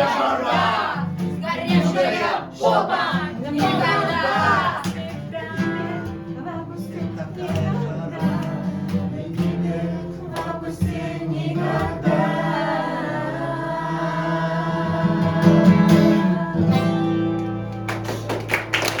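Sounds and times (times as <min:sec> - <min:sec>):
voices singing together: 0:00.0 - 0:17.5
guitar: 0:00.0 - 0:19.0.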